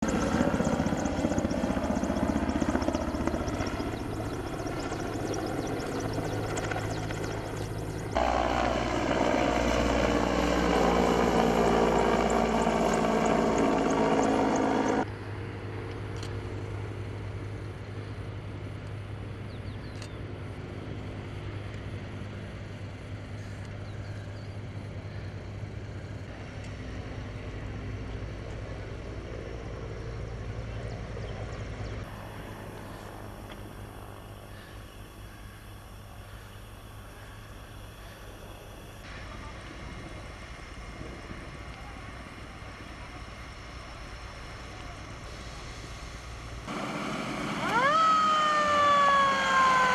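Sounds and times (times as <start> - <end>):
aircraft passing close: 0.0 - 18.4, 20.2 - 49.9
aircraft engines: 0.0 - 49.9.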